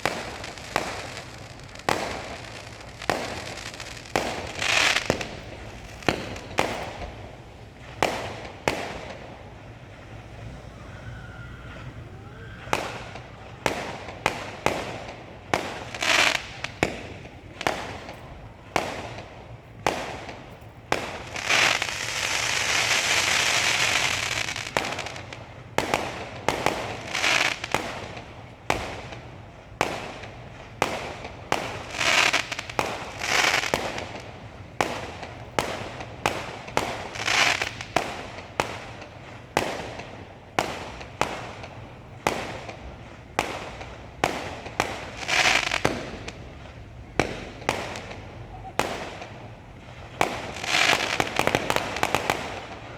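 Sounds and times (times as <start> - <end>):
fireworks bangs: 0.0 - 52.9
fireworks crackling: 0.0 - 52.9
hissing crackle: 0.0 - 52.9.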